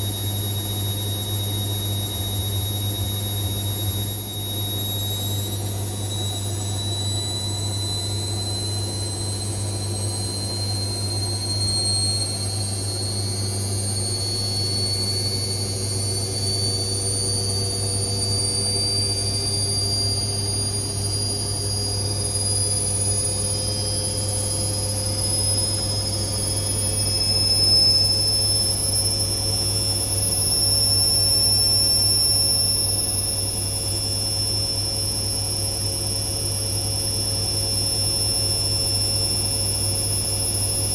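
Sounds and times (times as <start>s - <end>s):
washing machine motor whining: 0.0s - 34.4s.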